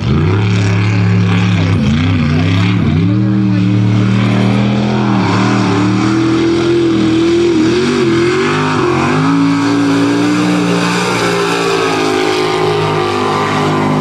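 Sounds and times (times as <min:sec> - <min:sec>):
truck engine at full throttle: 0:00.0 - 0:14.0.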